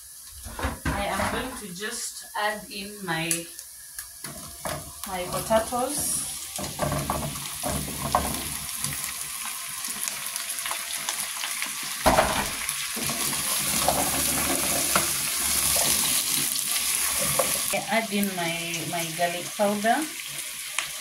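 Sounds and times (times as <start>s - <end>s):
potatoes sizzling in hot oil: 0.0s - 21.0s.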